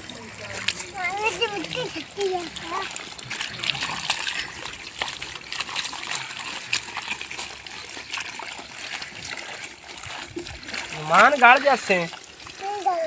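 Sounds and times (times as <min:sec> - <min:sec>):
clay slurry splashing: 0:00.0 - 0:13.0.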